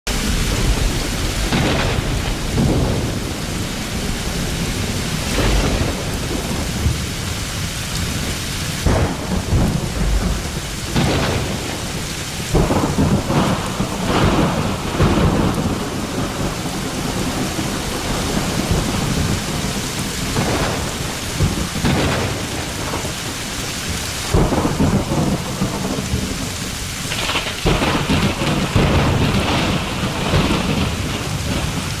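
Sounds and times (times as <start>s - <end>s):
heavy rain: 0.1s - 32.0s
thunder rumbling: 0.1s - 32.0s.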